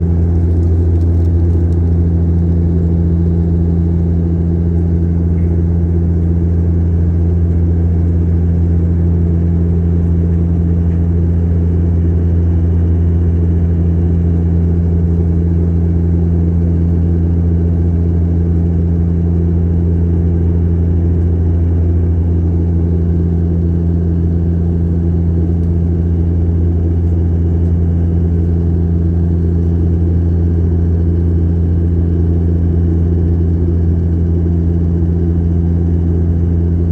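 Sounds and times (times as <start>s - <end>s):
airliner engines droning: 0.0s - 34.7s.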